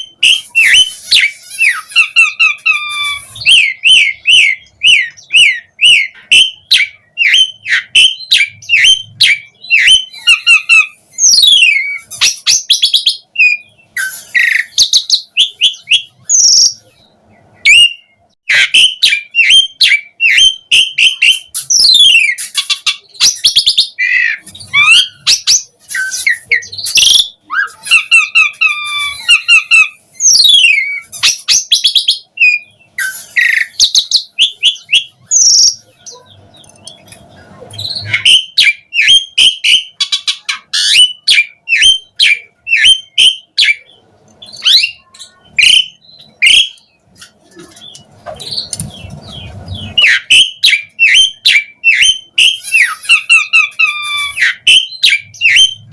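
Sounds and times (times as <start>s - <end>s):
starling singing: 0.0s - 55.9s.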